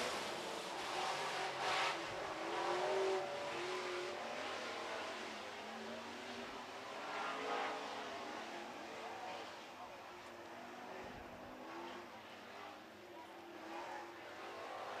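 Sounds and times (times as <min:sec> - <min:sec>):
race truck engines revving: 0:00.0 - 0:15.0.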